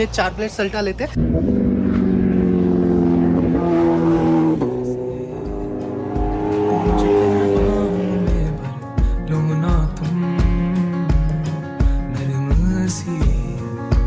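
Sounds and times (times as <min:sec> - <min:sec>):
steady low beat: 0:01.2 - 0:12.7
held music chords: 0:01.2 - 0:14.0.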